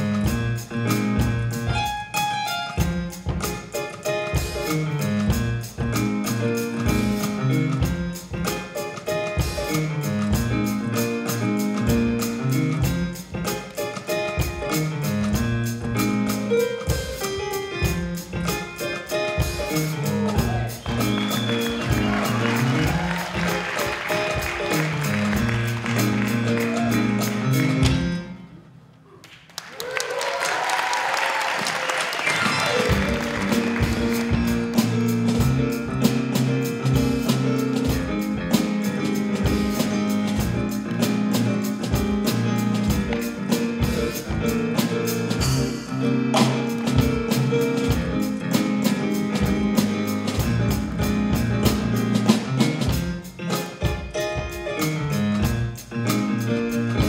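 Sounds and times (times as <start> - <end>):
drums steady beat: 0.0 - 28.4, 32.7 - 57.0
live band music: 0.0 - 57.0.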